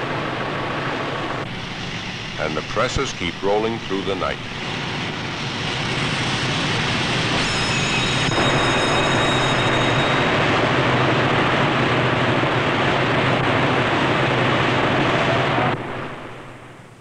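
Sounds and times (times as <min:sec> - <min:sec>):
printing presses running: 0:00.0 - 0:16.6
low hum: 0:00.0 - 0:17.0.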